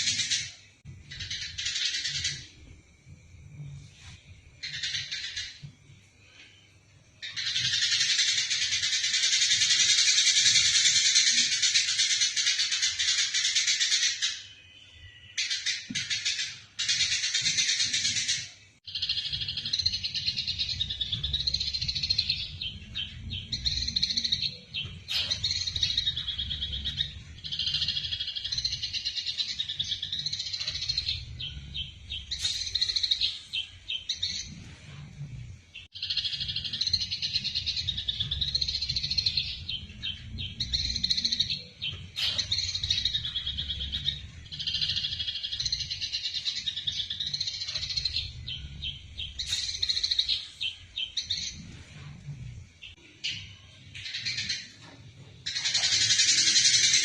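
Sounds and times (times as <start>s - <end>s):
sparrows chattering: 0.0s - 2.6s, 4.6s - 5.7s, 7.2s - 35.1s, 35.8s - 52.2s, 52.8s - 57.0s.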